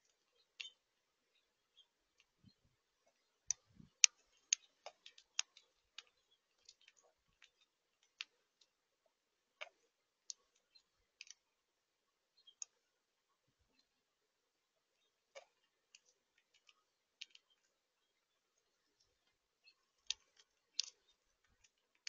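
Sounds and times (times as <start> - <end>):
clicks and ticks at seed feeder: 0.0 - 11.7, 12.3 - 14.1, 14.7 - 22.0.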